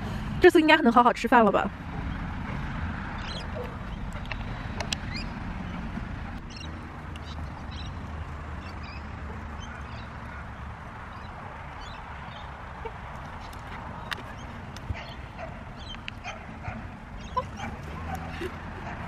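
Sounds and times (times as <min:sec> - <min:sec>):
birds chirping: 0:01.5 - 0:19.0.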